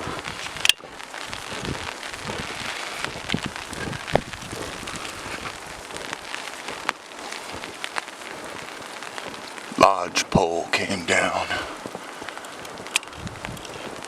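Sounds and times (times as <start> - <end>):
rain falling: 0.0 - 14.0
raindrops ticking: 0.0 - 14.0.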